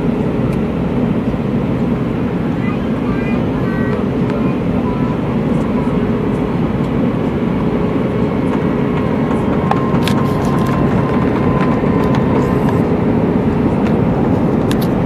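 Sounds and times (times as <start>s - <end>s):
airliner engines and airflow: 0.0s - 15.0s.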